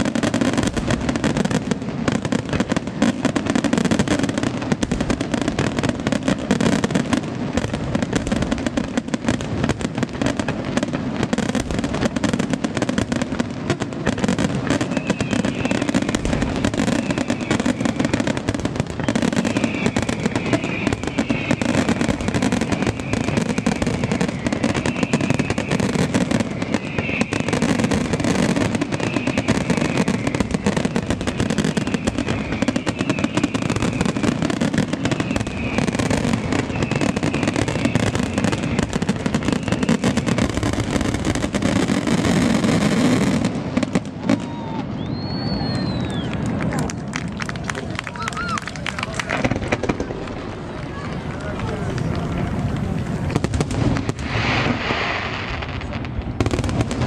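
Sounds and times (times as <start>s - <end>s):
fireworks crackling barrage: 0.0s - 57.0s.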